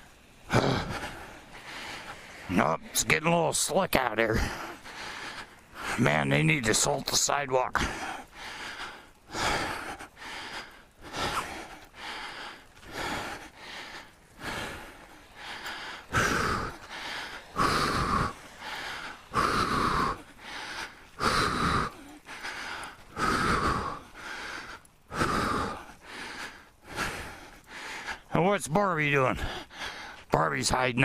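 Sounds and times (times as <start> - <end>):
man gasping breaths: 0.4 - 2.5, 4.3 - 6.0, 7.8 - 28.3, 29.4 - 30.3.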